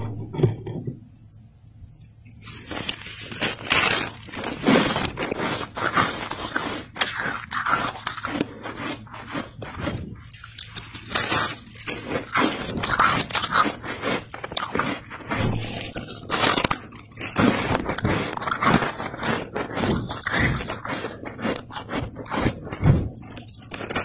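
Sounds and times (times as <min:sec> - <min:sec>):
frost crunching squeakily: 0:02.0 - 0:24.0.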